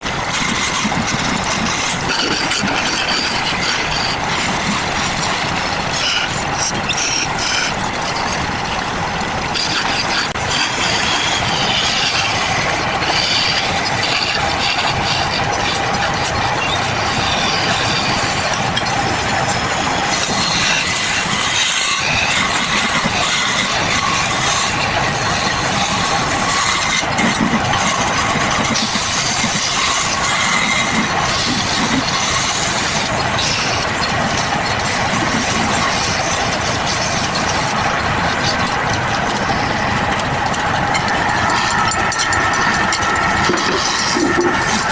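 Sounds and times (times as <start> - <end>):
woodworking machinery whining: 0.0 - 44.9.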